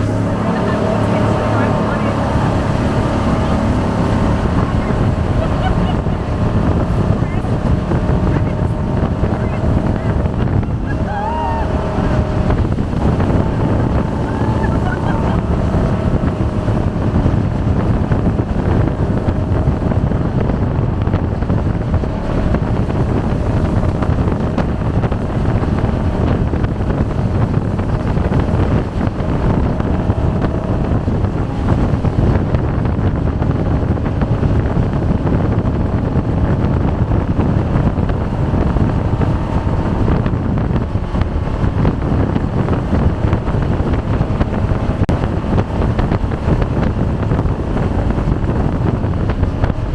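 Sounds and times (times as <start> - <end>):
boat engine running: 0.0 - 49.9
wind buffeting on microphone: 0.0 - 49.9.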